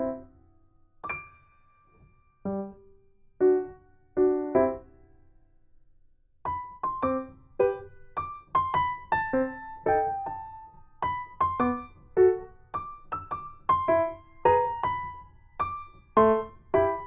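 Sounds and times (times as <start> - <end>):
gentle solo piano: 0.0 - 0.4, 1.0 - 5.3, 6.4 - 17.0.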